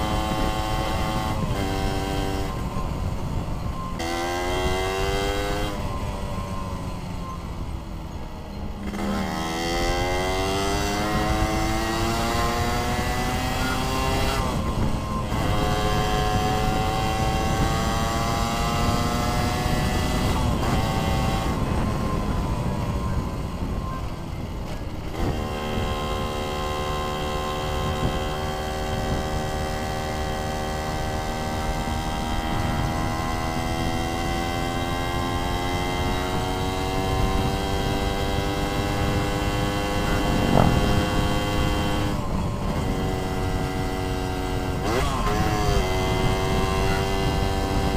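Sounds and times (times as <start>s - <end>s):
wind rushing over microphone: 0.0s - 8.1s, 8.7s - 47.9s
motorcycle engine shifting gears: 0.0s - 47.9s.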